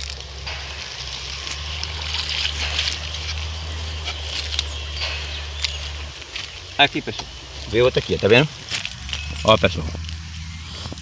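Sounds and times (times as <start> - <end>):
floating plants rustling: 0.0 - 11.0
steady low hum: 0.0 - 11.0.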